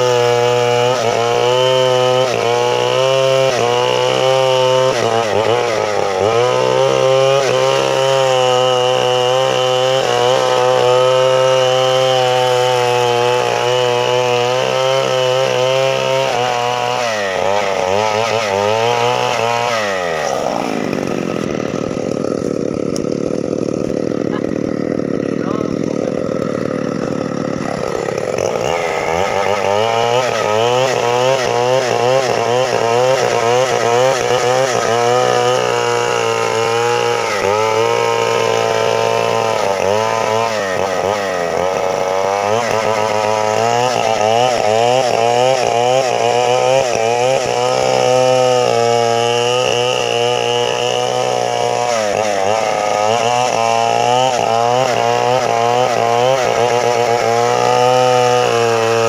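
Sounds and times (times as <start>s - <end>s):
chainsaw running at high revs: 0.0s - 59.0s.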